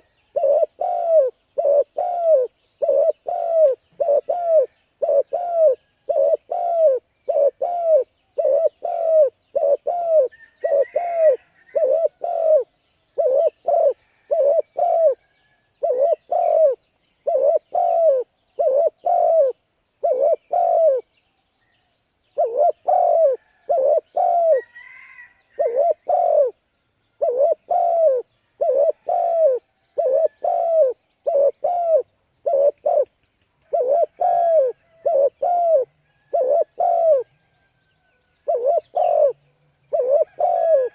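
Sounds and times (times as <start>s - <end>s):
dove cooing: 0.0s - 15.2s, 15.8s - 21.0s, 22.4s - 26.6s, 27.2s - 37.3s, 38.4s - 40.9s.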